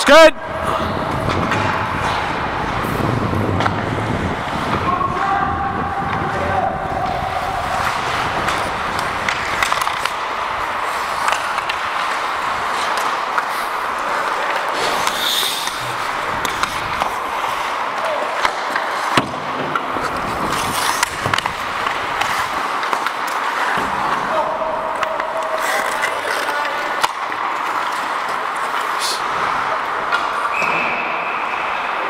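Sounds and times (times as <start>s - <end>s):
hockey sticks and puck clacking: 0.0s - 32.0s
skate blades scraping ice: 0.7s - 5.2s, 6.0s - 32.0s.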